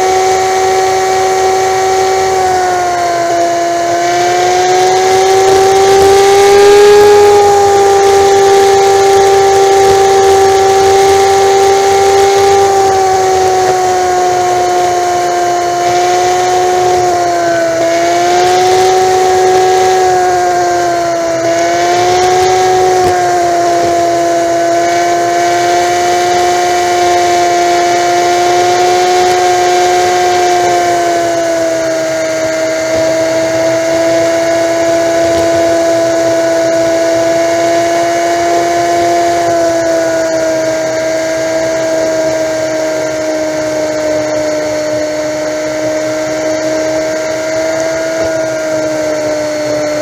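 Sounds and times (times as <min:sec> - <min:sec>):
motorcycle engine whine: 0:00.0 - 0:50.0
wind and road noise: 0:00.0 - 0:50.0.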